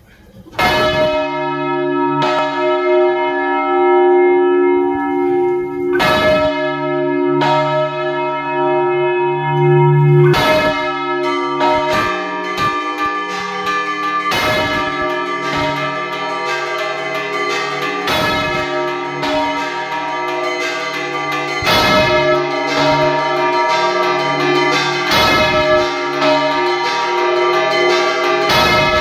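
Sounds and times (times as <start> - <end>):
large church bell ringing: 0.0 - 29.0
smaller bells ringing: 0.0 - 29.0.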